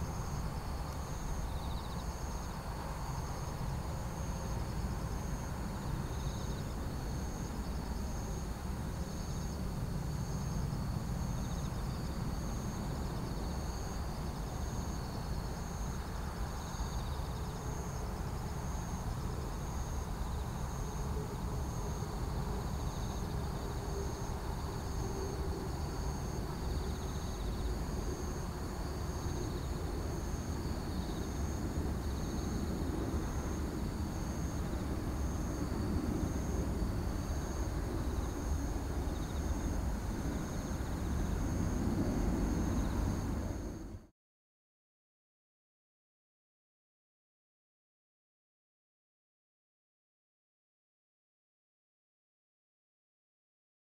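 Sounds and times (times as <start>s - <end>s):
faint jet engine drone: 0.0s - 44.1s
insects chirping: 0.0s - 44.1s.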